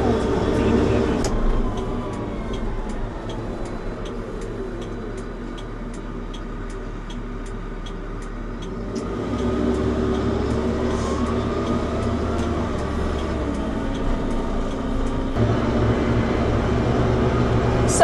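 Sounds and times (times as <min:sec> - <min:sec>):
diesel engine running: 0:00.0 - 0:18.0
light ticking: 0:00.1 - 0:15.4.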